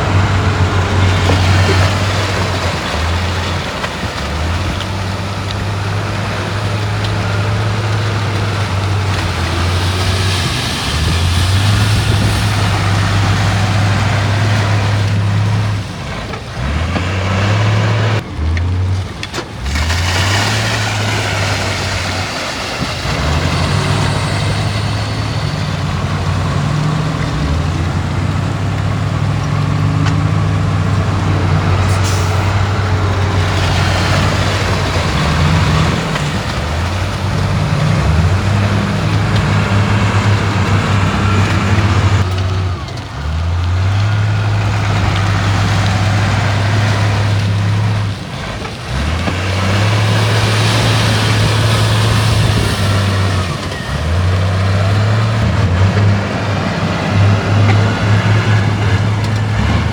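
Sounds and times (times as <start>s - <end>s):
heavy diesel engine drone: 0.0s - 59.9s.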